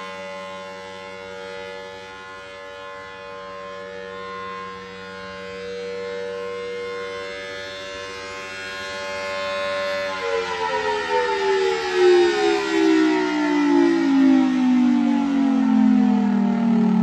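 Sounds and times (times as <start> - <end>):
outdoor warning siren: 0.0 - 17.0.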